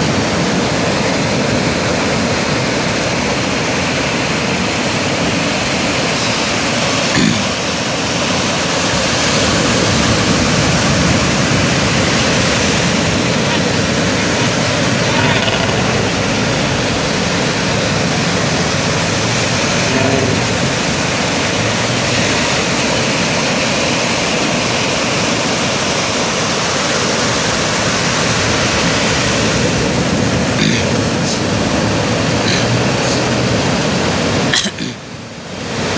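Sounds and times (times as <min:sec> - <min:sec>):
sea surf breaking on beach: 0:00.0 - 0:35.9.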